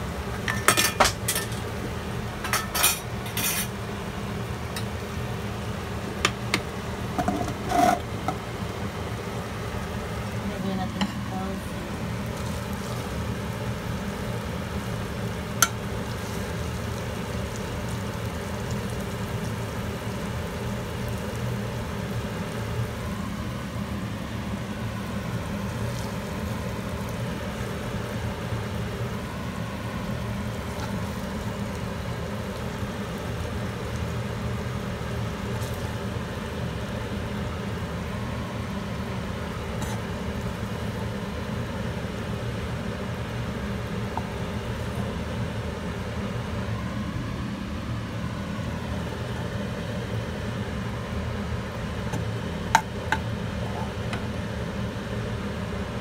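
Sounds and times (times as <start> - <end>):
faint sizzle: 0.0 - 56.0
stovetop low hum: 0.0 - 56.0.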